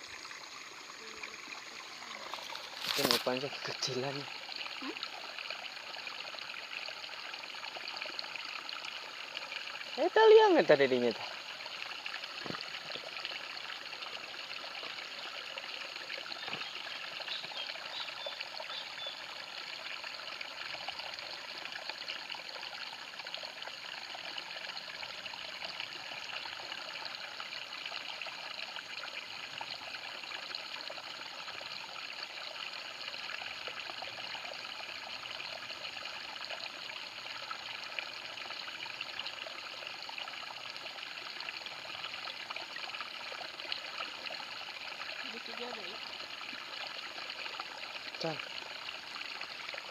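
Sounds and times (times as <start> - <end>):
stream trickling over stones: 0.0 - 49.9.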